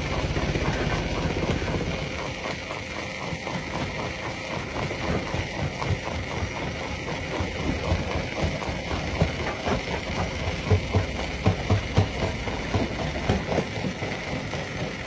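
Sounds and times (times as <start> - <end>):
rock crusher knocking and clattering: 0.0 - 15.0.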